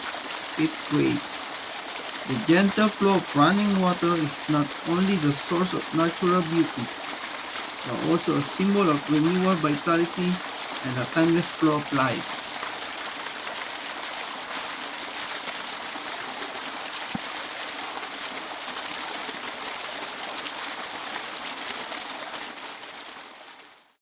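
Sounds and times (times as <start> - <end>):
stream water flowing: 0.0 - 23.9.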